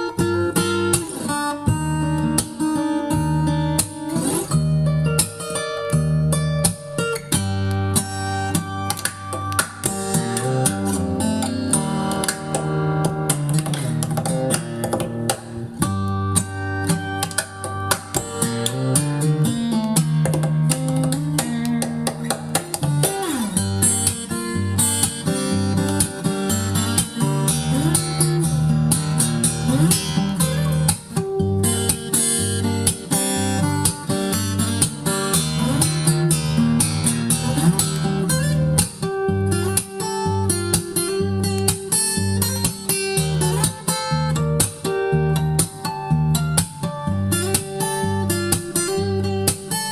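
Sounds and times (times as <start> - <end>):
guitar music from vinyl record: 0.0 - 49.9.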